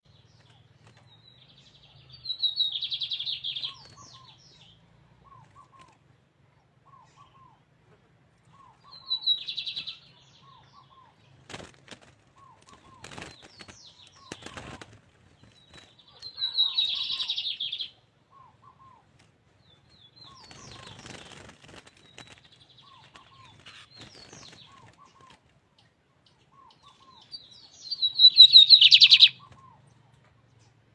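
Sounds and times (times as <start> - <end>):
bird singing trilled phrases: 0.1 - 6.0, 8.5 - 11.4, 12.4 - 29.9.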